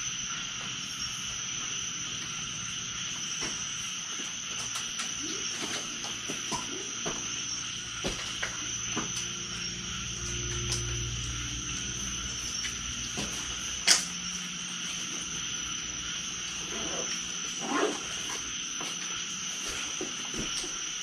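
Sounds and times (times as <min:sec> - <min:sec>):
crickets and insects chirring: 0:00.0 - 0:21.0.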